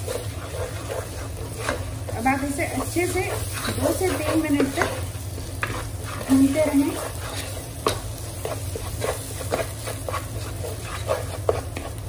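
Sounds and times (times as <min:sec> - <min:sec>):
low sizzle: 0:00.0 - 0:12.0
wooden spoon scraping a pot: 0:00.0 - 0:12.0.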